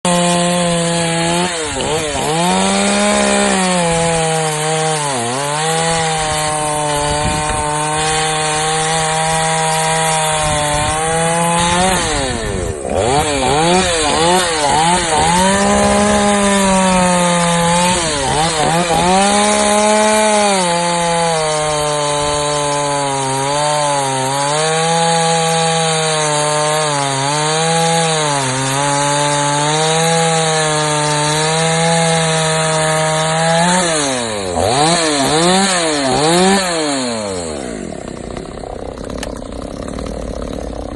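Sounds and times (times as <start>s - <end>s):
chainsaw running at high revs: 0.0s - 40.9s.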